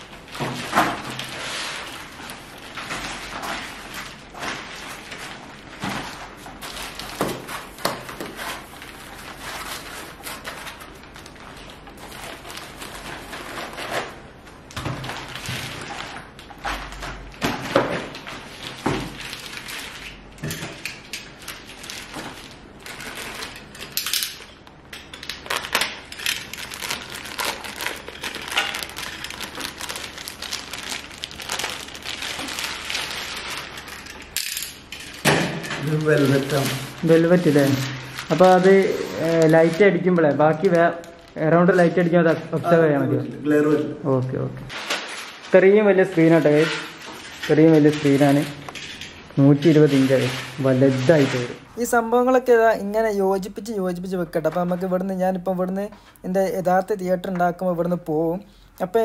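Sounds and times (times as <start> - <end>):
plastic wrapping crinkling: 0.0 - 43.3, 44.7 - 59.0.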